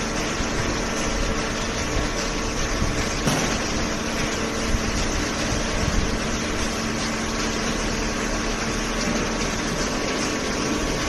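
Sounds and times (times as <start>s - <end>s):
baler machine hum: 0.0s - 11.0s.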